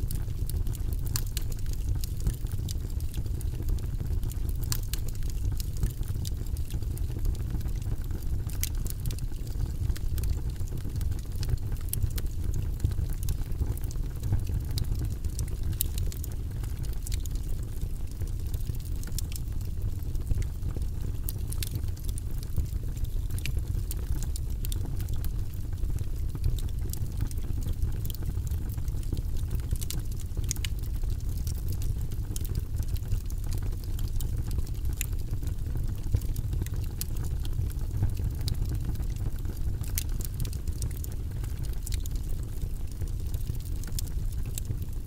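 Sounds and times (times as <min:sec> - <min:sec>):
low rumble of flames: 0:00.0 - 0:45.0
wood crackling and popping: 0:00.0 - 0:45.0.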